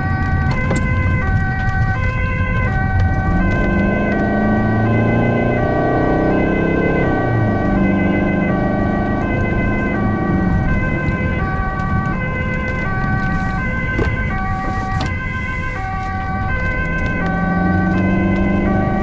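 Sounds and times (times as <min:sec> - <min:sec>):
engine and road rumble: 0:00.0 - 0:19.0
two-tone ambulance siren: 0:00.0 - 0:19.0.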